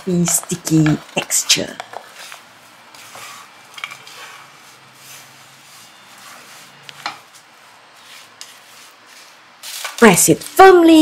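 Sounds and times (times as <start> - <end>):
spatula stirring sticky mix: 0.0 - 10.7.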